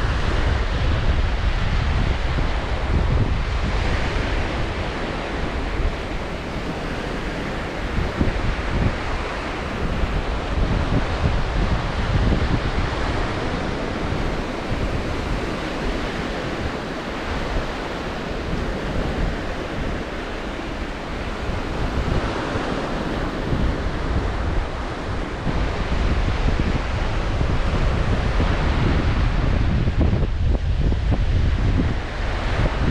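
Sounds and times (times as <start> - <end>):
surf breaking on shore: 0.0 - 32.9
wind buffeting microphone: 0.0 - 32.9.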